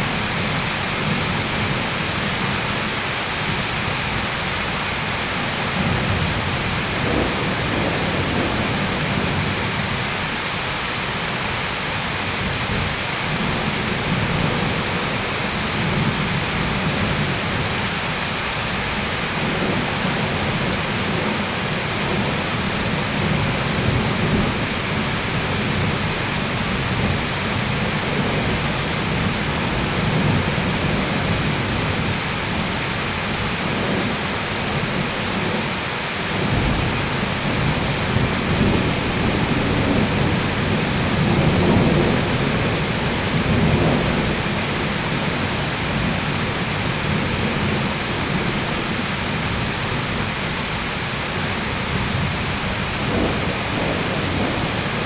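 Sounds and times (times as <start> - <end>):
hard rain: 0.0 - 55.0
thunder rumbling: 0.0 - 55.0.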